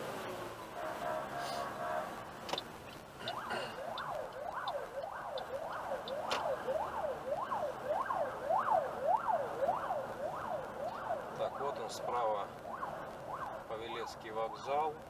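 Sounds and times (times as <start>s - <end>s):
emergency vehicle siren: 0.0s - 15.0s.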